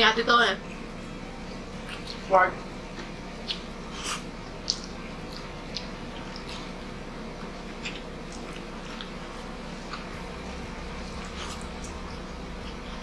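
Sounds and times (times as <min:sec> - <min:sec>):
air conditioner compressor hum: 0:00.0 - 0:13.0
chewing with lip smacks: 0:00.6 - 0:02.3, 0:02.9 - 0:13.0.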